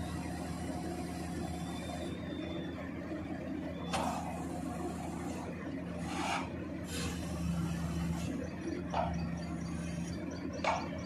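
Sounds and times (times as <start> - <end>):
low hydraulic machine hum: 0.0 - 11.0.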